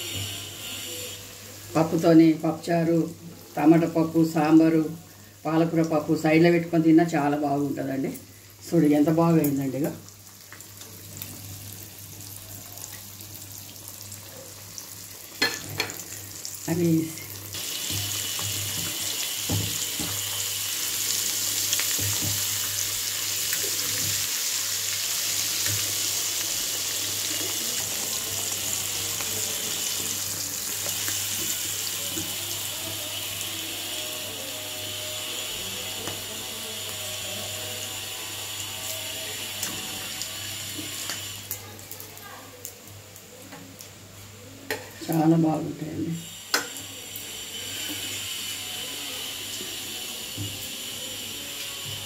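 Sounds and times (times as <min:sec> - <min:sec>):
fish sizzling in hot oil: 0:00.0 - 0:52.0.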